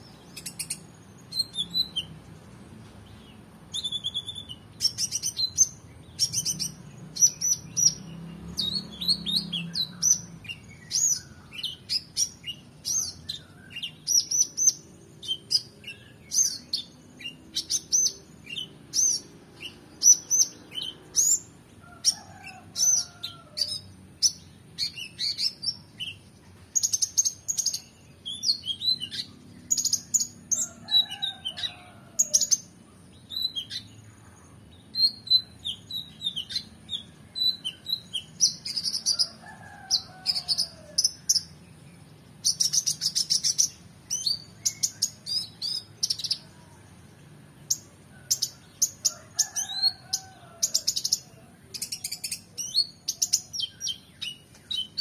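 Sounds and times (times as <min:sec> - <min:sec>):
sunbird singing high chirps and trills: 0:00.0 - 0:55.0.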